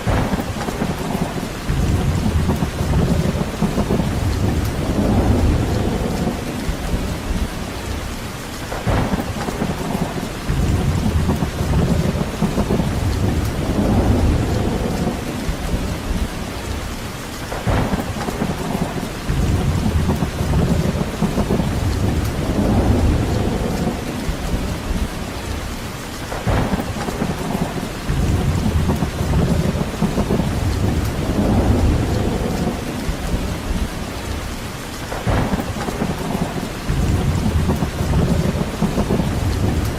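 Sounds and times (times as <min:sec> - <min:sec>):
heavy rain: 0:00.0 - 0:39.9
low rumble: 0:01.2 - 0:08.2, 0:08.9 - 0:17.0, 0:17.6 - 0:25.7, 0:26.5 - 0:34.6, 0:35.3 - 0:39.9.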